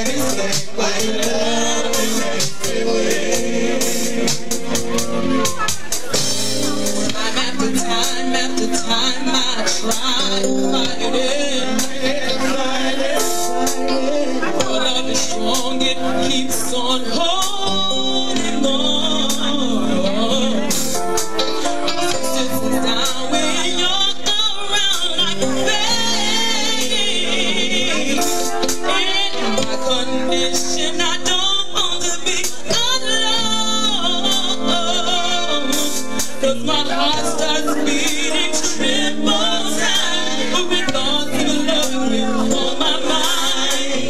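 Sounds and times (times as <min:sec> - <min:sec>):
keyboard backing music: 0:00.0 - 0:44.0
woman singing into a microphone: 0:06.7 - 0:44.0.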